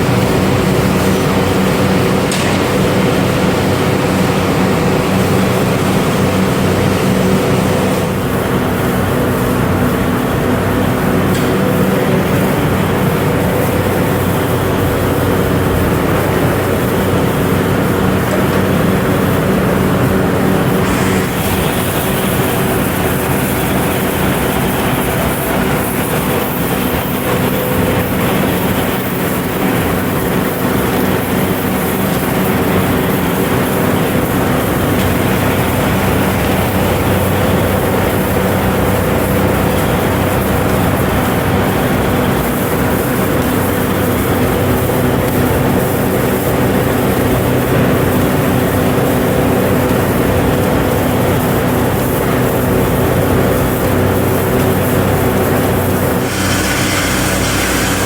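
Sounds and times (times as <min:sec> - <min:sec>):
factory machinery humming: 0:00.0 - 0:58.0.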